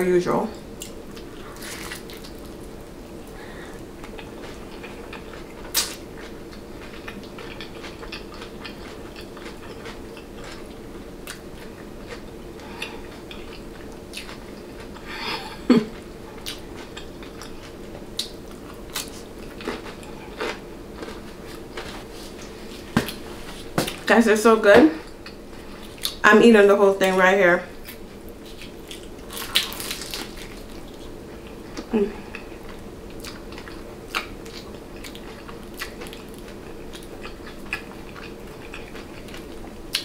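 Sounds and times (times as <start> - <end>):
steady low hum: 0.0 - 40.0
crunchy biting and chewing: 0.8 - 2.7, 4.0 - 15.1, 16.3 - 23.2, 27.8 - 40.0.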